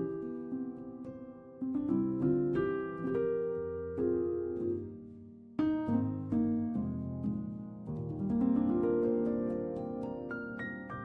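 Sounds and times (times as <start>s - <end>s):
instrumental music with ringing chords: 0.0s - 11.0s.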